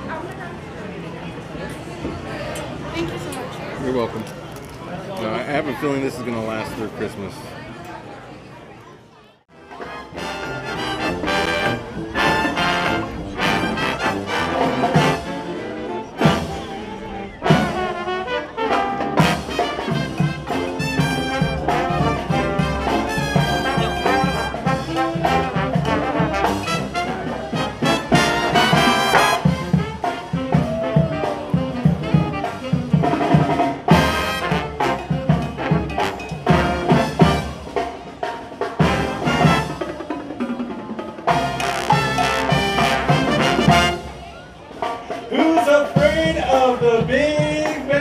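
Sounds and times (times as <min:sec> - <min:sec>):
brass band playing: 0:09.5 - 0:48.0.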